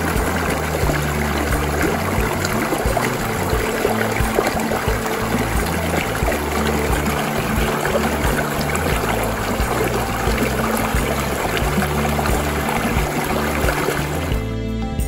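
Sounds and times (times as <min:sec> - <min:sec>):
stream splashing over rocks: 0:00.0 - 0:14.4
low sustained music notes: 0:00.0 - 0:15.0.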